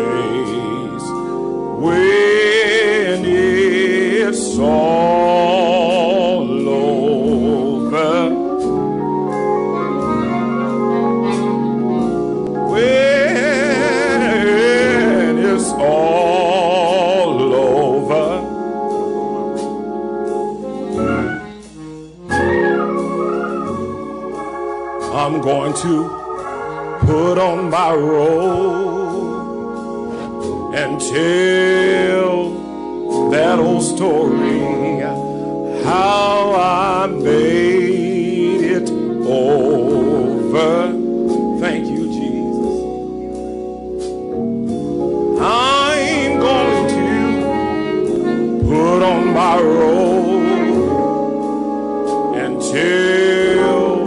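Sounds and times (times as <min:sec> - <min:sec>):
gospel singing with vibrato: 0:00.0 - 0:43.3, 0:44.9 - 0:54.0
organ chords: 0:00.0 - 0:54.0.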